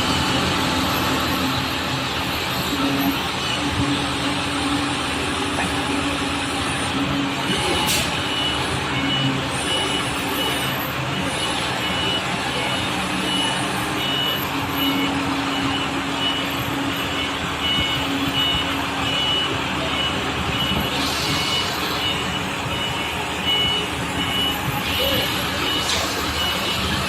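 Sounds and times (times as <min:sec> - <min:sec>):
engine and machinery noise: 0:00.0 - 0:27.0
forklift warning beeper: 0:00.0 - 0:27.0.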